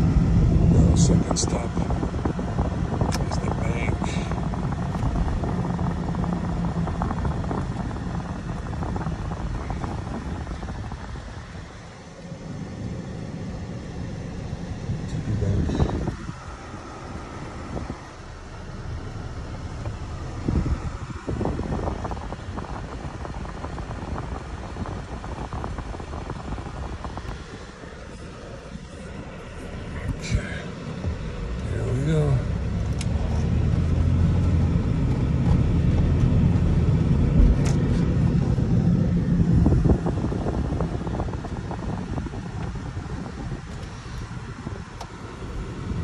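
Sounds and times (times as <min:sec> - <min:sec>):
car cabin road rumble: 0:00.0 - 0:46.0.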